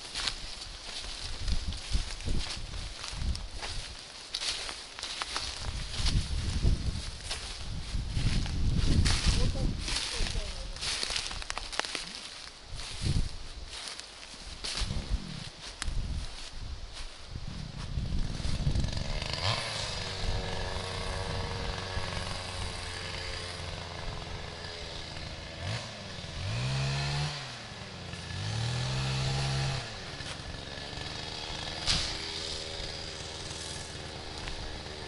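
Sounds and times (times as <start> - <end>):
chainsaw idling and revving: 0.0 - 13.0, 18.1 - 35.0.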